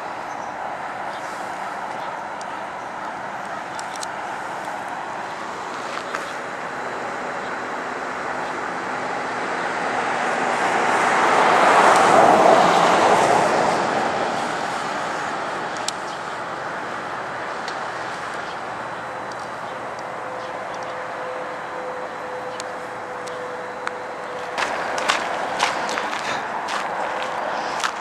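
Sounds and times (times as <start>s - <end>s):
outdoor background noise: 0.0s - 28.0s
vehicle passing on road: 0.0s - 28.0s.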